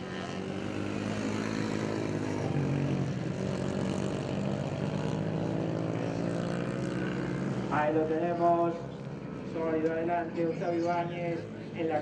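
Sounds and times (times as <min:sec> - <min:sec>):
small racing engines buzzing: 0:00.0 - 0:12.0.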